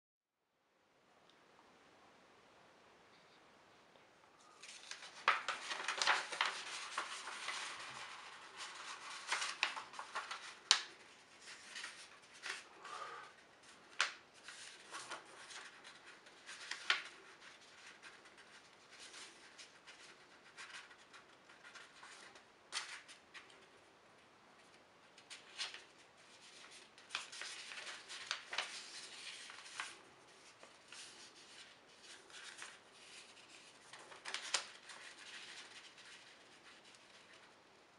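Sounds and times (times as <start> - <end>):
paper rustling and crinkling: 4.4 - 23.7, 24.6 - 37.6.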